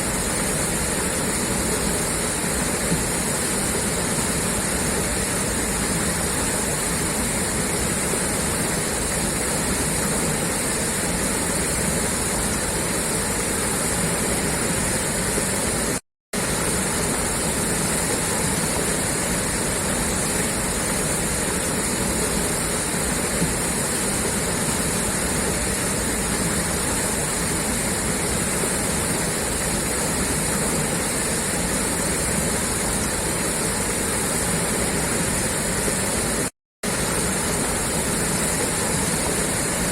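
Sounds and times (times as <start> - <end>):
water gushing from a pipe: 0.0 - 39.9.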